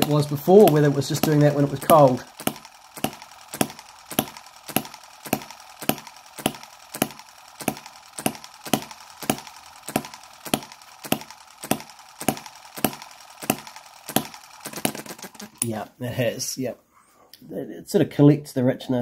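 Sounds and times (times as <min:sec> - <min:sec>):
model engine firing pops: 0:00.0 - 0:15.7.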